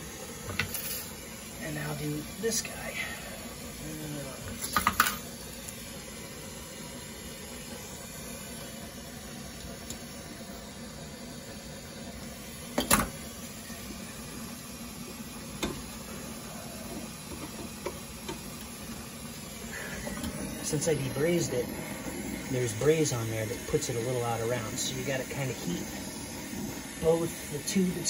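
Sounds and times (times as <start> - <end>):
torch flame hissing: 0.0 - 28.0.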